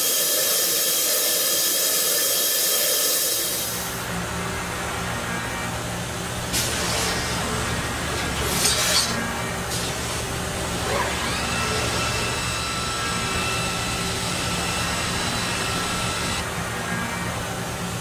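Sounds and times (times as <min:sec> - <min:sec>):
machine whining tone: 0:00.0 - 0:18.0
milling machine hum: 0:00.0 - 0:18.0.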